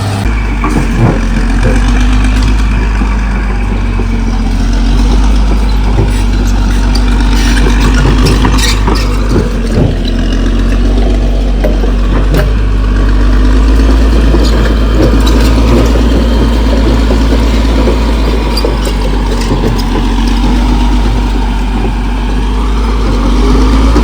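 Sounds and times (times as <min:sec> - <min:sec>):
bulldozer diesel engine running: 0:00.0 - 0:24.0
sharp metal clanks: 0:00.2 - 0:22.0.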